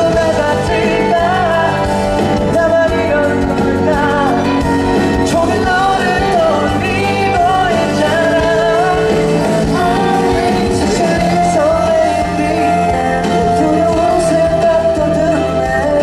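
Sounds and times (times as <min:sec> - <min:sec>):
live band playing: 0:00.0 - 0:16.0
man singing long notes: 0:00.0 - 0:16.0.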